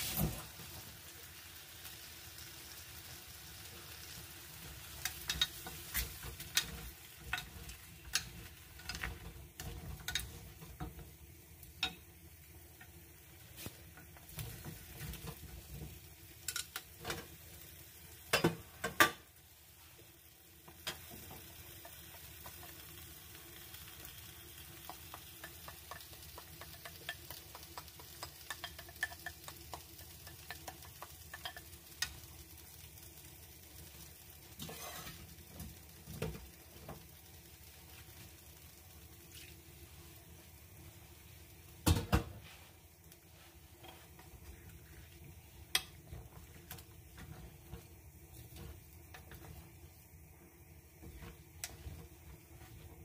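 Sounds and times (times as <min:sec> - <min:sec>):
food sizzling in a pan: 0:00.0 - 0:53.0.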